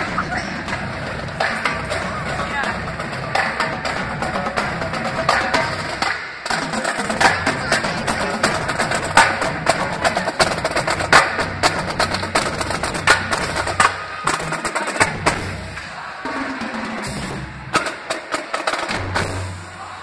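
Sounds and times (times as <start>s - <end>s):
bass drum beats: 0.0s - 18.0s
snare drums rapid strikes: 0.0s - 19.9s.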